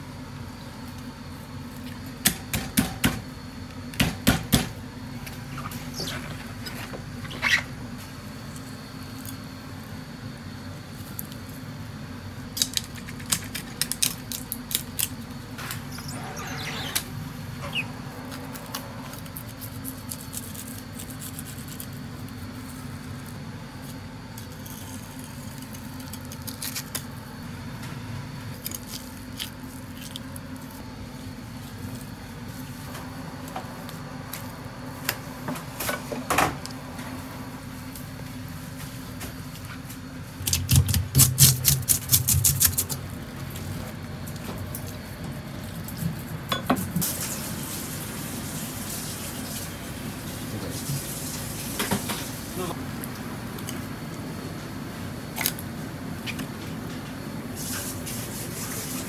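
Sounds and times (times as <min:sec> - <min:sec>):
steady low hum: 0:00.0 - 0:47.0, 0:49.7 - 0:58.9.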